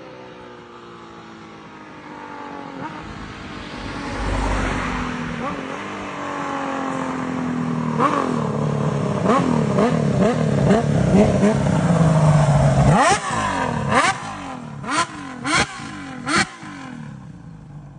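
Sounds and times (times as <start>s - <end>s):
motorcycle engine revving: 2.2s - 17.9s.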